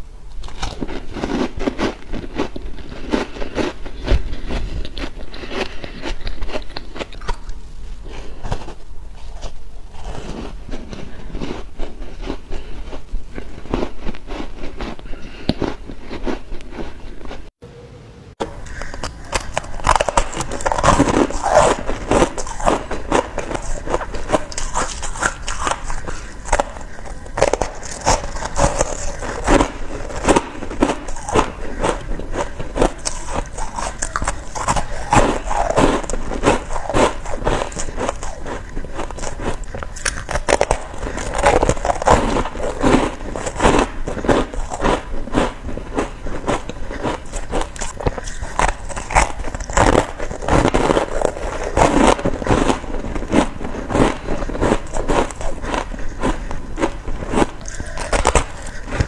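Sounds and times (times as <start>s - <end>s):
chewing shaved ice: 0.4s - 17.5s, 18.4s - 59.0s.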